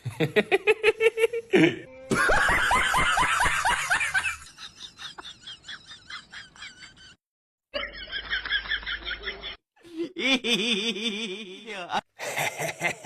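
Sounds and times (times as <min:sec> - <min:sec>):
person cackling with laughter: 0:00.0 - 0:07.2, 0:07.8 - 0:11.6, 0:12.2 - 0:13.0.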